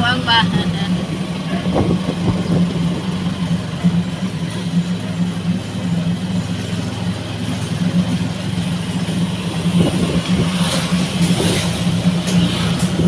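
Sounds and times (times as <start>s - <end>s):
road and air noise: 0.0s - 13.0s
vehicle engine humming: 0.0s - 13.0s.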